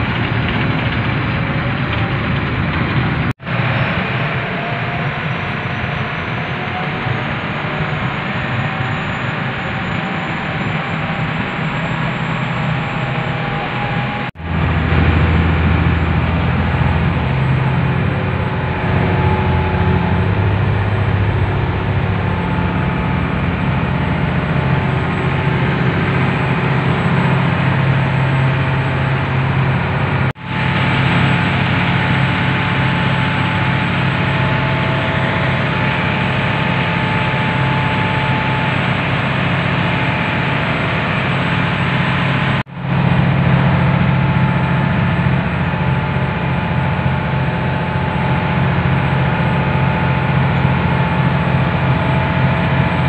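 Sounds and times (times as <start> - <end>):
boat engine running: 6.4 - 53.0.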